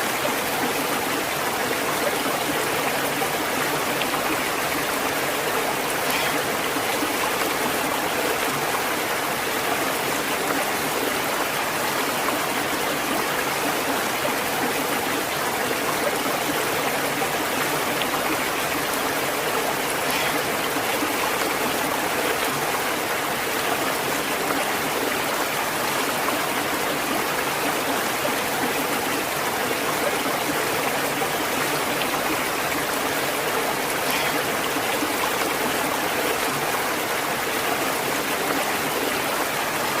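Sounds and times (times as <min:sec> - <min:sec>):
stream water flowing: 0:00.0 - 0:40.0.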